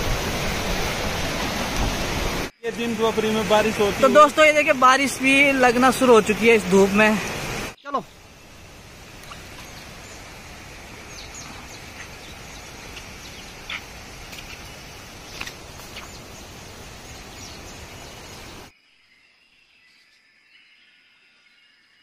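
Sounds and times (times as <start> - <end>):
rushing outdoor noise: 0.0 - 18.7.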